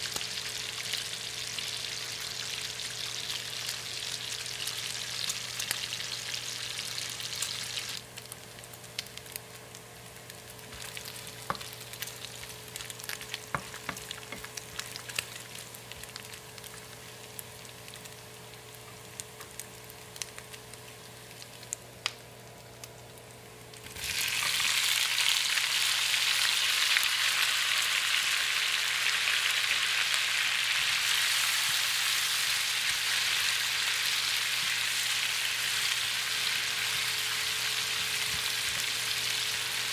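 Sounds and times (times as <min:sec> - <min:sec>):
vegetables frying loudly: 0:00.0 - 0:21.8, 0:23.7 - 0:39.9
bacon sizzling in a pan: 0:00.0 - 0:39.9.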